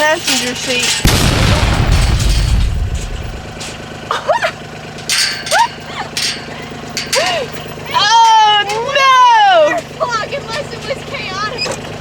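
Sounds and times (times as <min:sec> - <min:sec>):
vehicle engine running at low revs: 0:00.8 - 0:12.0.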